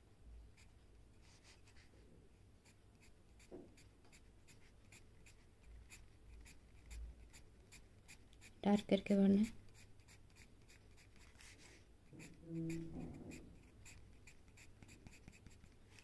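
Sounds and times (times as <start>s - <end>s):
pencil scratching on paper: 2.6s - 16.0s.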